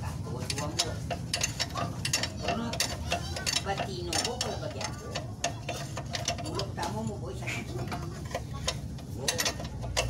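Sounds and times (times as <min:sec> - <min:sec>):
ratchet wrench clicking: 0:00.5 - 0:10.0.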